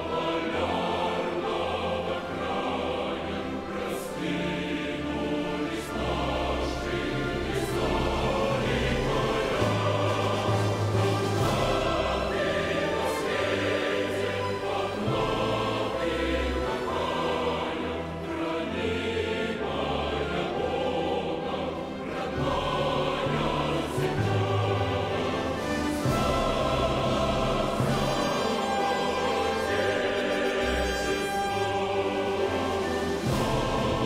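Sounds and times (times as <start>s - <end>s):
choir singing: 0.0s - 34.0s
orchestra playing: 0.0s - 34.0s.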